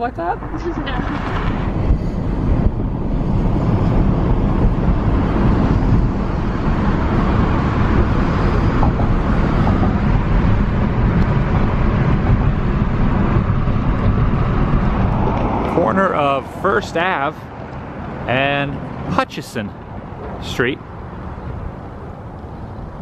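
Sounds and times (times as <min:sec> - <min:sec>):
car road noise rumble: 0:00.0 - 0:23.0.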